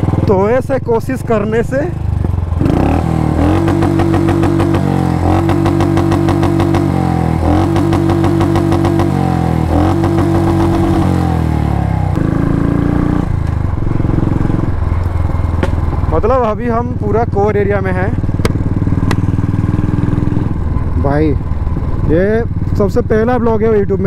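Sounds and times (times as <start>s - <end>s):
motorcycle engine under load: 0.0s - 24.0s.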